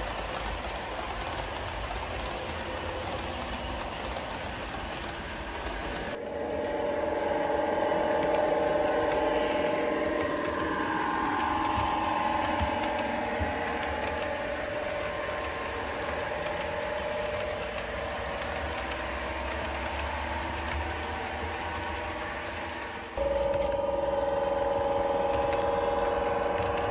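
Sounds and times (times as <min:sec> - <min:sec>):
model train engine sound: 0:00.0 - 0:26.9
model train wheels rolling: 0:00.0 - 0:26.9.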